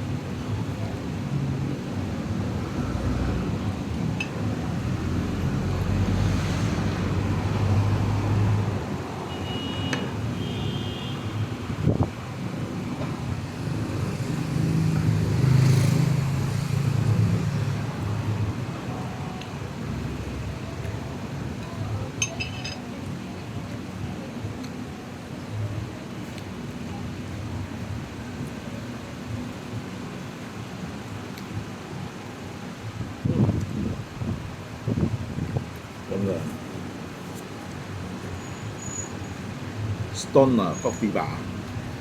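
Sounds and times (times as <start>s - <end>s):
vehicles passing: 0.0s - 42.0s.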